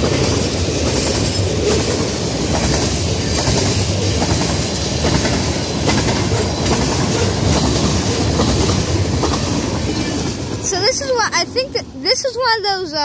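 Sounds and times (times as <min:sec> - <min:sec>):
clickety-clack over rail joints: 0:00.0 - 0:11.2
train wheels rumbling on rails: 0:00.0 - 0:13.0.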